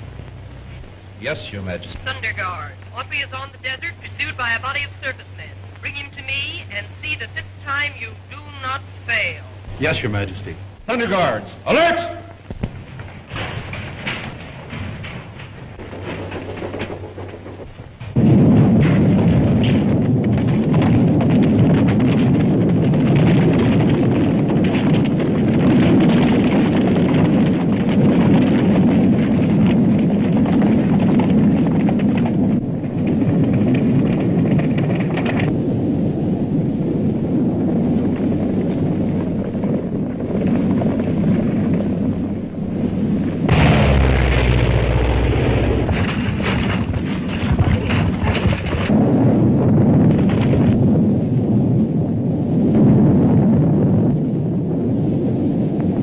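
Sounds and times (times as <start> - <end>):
heavy low rumble: 0.0 - 56.0
dense rumbling roar: 9.4 - 56.0.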